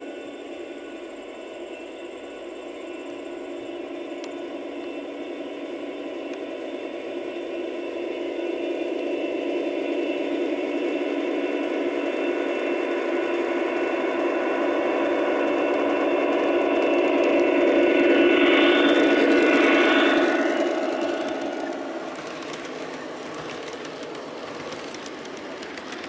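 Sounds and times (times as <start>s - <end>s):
model locomotive diesel engine sound: 0.0s - 26.0s.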